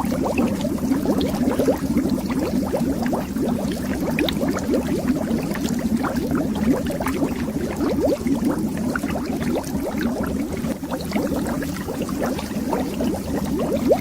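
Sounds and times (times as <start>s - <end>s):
air bubbles underwater: 0.0s - 14.0s.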